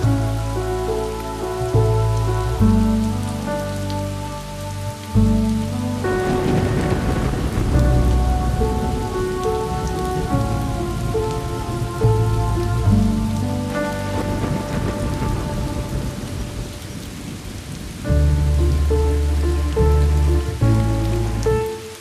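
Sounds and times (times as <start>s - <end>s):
film score sustained chords: 0.0s - 22.0s
heavy rain on street: 0.0s - 22.0s.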